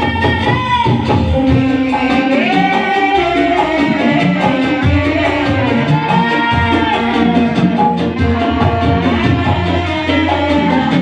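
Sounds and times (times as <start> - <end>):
bass and drum beat: 0.0 - 11.0
live band playing pop song: 0.0 - 11.0
person singing melody: 0.0 - 11.0.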